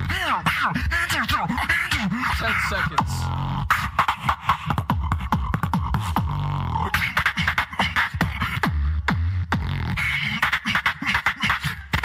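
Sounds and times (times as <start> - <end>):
beatboxing clicks and snare strikes: 0.0 - 12.0
deep beatboxed bass notes: 0.0 - 12.0.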